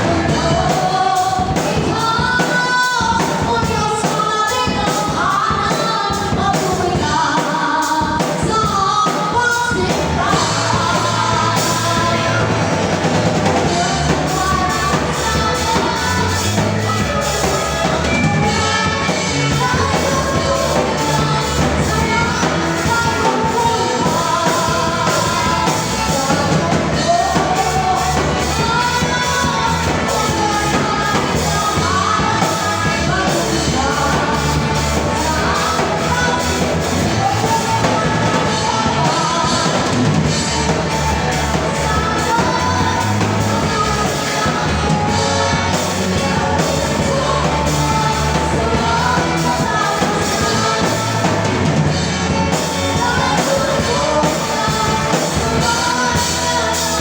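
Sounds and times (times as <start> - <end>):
live band playing: 0.0 - 57.0
voices singing: 0.0 - 57.0.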